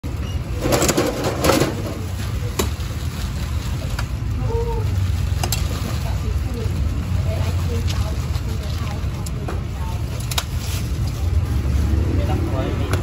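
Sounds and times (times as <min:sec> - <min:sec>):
low rumble of passing traffic: 0:00.0 - 0:13.0
clatter and rustling: 0:00.1 - 0:12.3.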